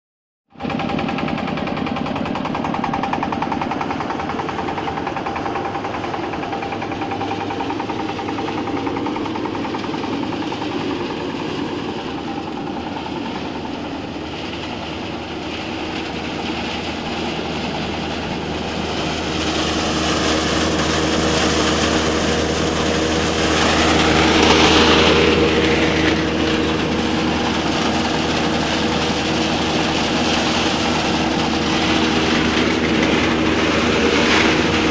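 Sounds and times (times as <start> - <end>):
diesel engine running: 0.5 - 34.9
threshing drum rushing noise: 0.6 - 34.9.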